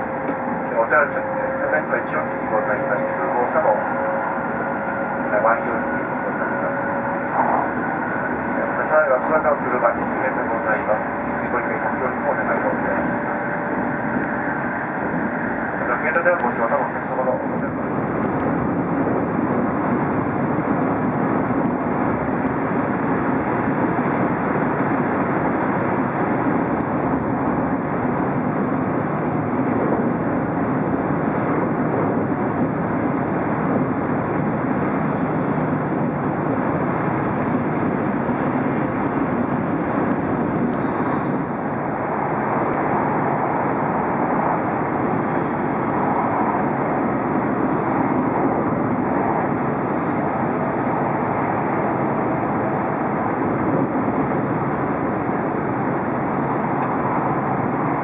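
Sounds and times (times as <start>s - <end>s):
train interior running noise: 0.0s - 58.0s.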